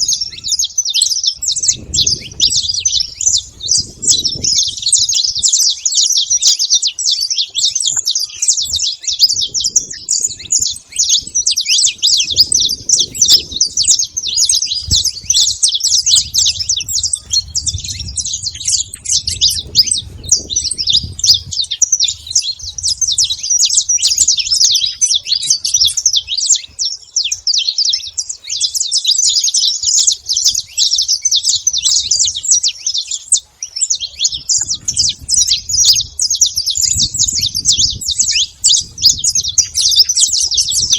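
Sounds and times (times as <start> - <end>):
flock of finches chirping: 0.0 - 40.9.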